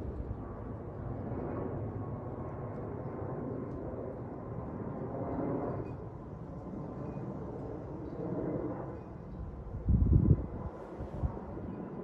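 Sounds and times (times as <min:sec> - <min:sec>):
jet airliner flying overhead: 0:00.0 - 0:12.0.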